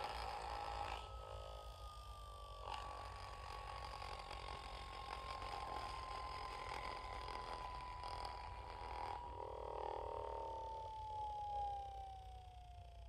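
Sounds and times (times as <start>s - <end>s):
descending whistle tone: 0.0s - 13.0s
low hum: 0.0s - 13.0s.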